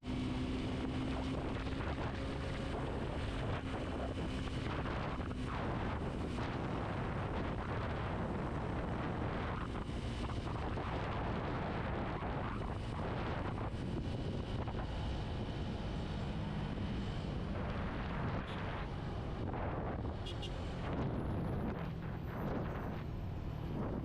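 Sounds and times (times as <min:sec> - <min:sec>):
wind rushing over microphone: 0:00.1 - 0:24.0.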